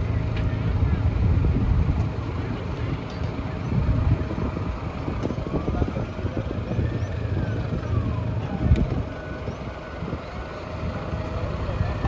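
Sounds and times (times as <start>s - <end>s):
fire engine rumbling: 0.0s - 12.0s.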